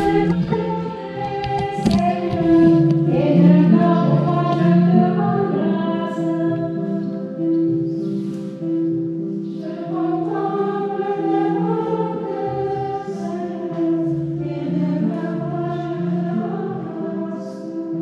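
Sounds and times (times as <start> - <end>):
choir singing a hymn: 0.0 - 7.0, 9.4 - 18.0.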